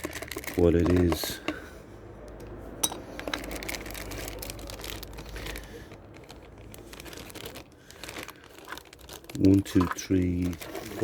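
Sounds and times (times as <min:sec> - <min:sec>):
plastic packaging clicks: 0:00.0 - 0:01.4, 0:03.2 - 0:11.0
plastic bags rustling: 0:00.0 - 0:01.9, 0:02.6 - 0:11.0.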